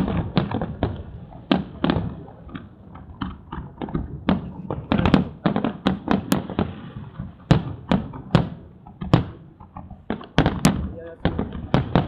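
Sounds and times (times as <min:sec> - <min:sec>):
firework crackle and rumble: 0:00.0 - 0:12.0
firework shells bursting: 0:00.0 - 0:12.0.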